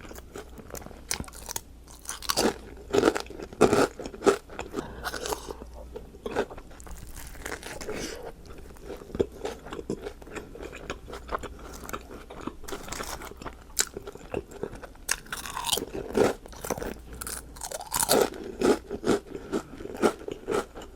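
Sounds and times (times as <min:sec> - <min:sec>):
crunchy chewing of food: 0:00.0 - 0:20.9.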